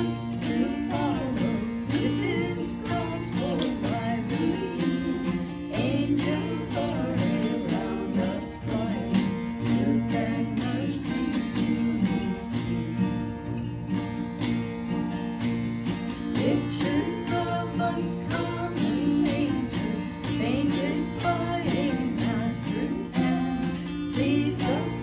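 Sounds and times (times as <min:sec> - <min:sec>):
strummed guitar: 0:00.0 - 0:25.0.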